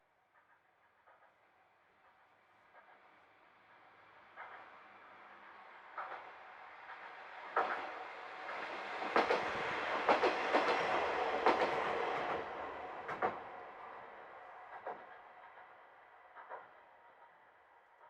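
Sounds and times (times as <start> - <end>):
train wheels clickety-clack: 0.3 - 18.0.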